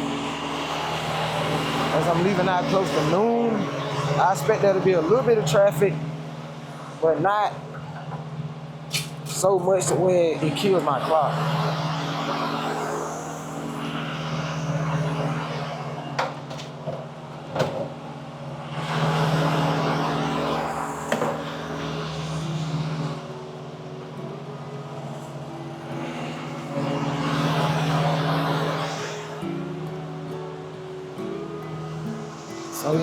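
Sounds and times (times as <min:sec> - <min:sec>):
low engine hum: 0:00.0 - 0:33.0
vehicles passing by: 0:00.0 - 0:33.0.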